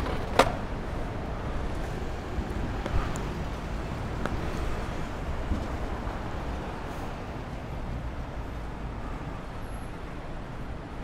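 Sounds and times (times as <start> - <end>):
city traffic noise: 0.0 - 11.0
longboard wheels rolling on asphalt: 0.0 - 11.0.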